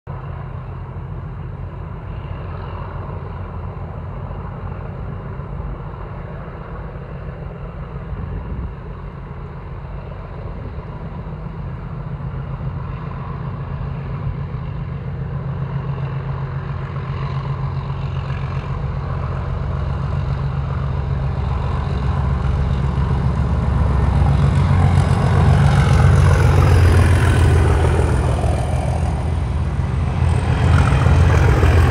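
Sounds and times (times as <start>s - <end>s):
diesel locomotive engines beating: 0.1s - 31.9s
wheel and rail noise: 0.1s - 31.9s.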